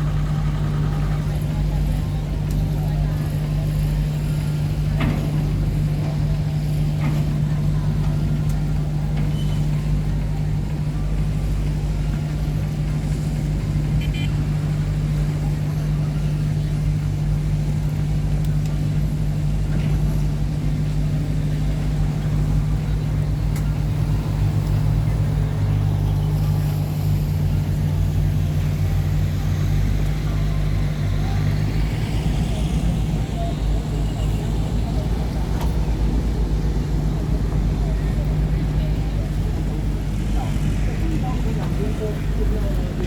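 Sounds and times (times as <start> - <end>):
boat engine humming: 0.0 - 43.0.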